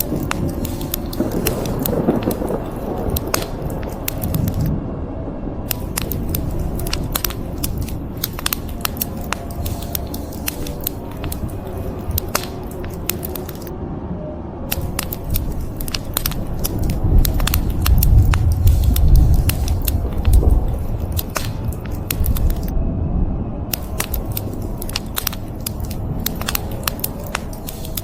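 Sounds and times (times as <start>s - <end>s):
wood fire crackling and popping: 0.0s - 4.7s, 5.7s - 13.7s, 14.7s - 22.7s, 23.7s - 28.0s.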